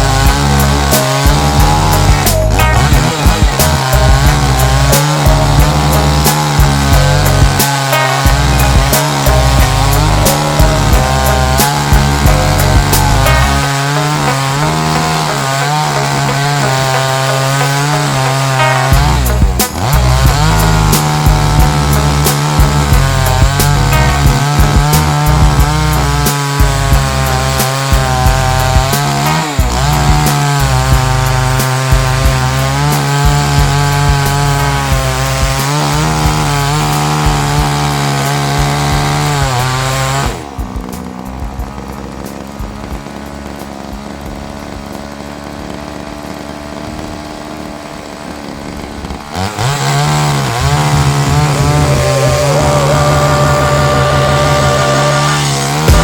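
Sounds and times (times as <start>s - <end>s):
chainsaw ripping through log: 0.0s - 56.0s.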